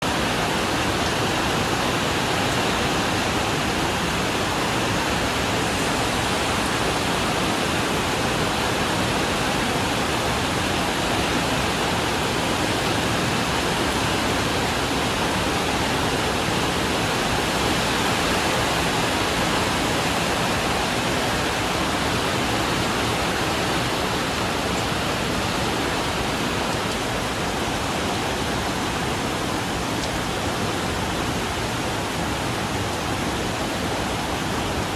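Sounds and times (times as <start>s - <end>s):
rain on a metal roof: 0.0s - 34.9s.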